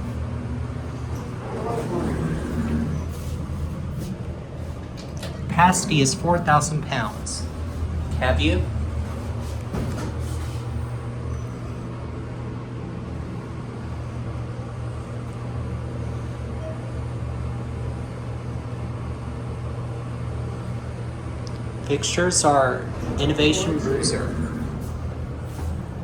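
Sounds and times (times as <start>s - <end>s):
elevator hum and rumble: 0.0s - 26.0s.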